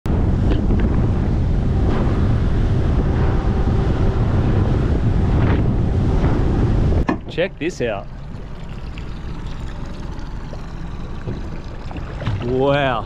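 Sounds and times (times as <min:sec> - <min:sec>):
faint boat motor drone: 0:00.1 - 0:13.0
wind buffeting microphone: 0:00.1 - 0:13.0.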